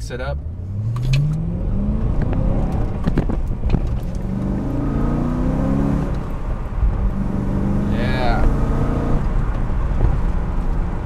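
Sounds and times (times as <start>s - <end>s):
car engine accelerating hard: 0.2s - 11.0s.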